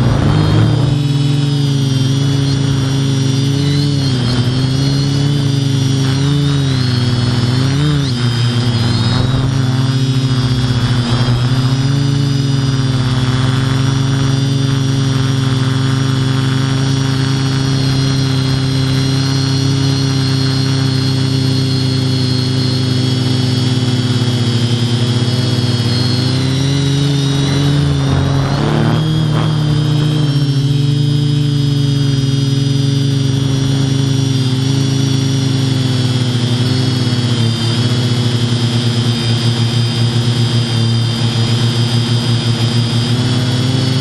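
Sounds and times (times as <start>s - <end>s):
drone motors humming and whining: 0.0s - 44.0s.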